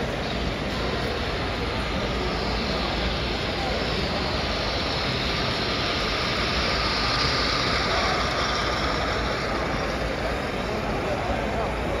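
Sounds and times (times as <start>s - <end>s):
model train rumbling: 0.0s - 12.0s.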